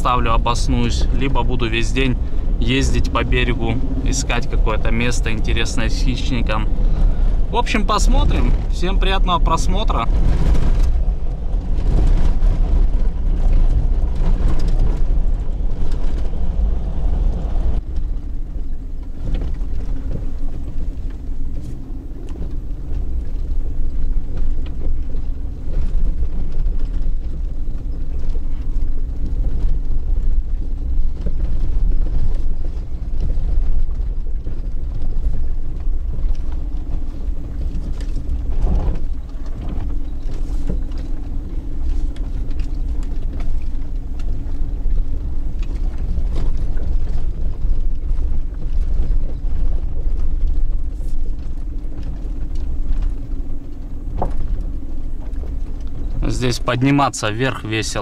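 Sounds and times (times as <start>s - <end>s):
car engine and tyres rumbling: 0.0s - 58.0s
steady engine hum: 0.0s - 58.0s.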